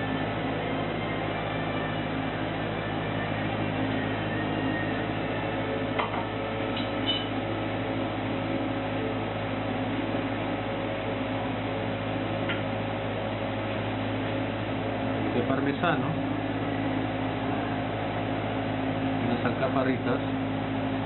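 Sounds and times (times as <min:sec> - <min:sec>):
kitchen machinery humming: 0:00.0 - 0:21.0.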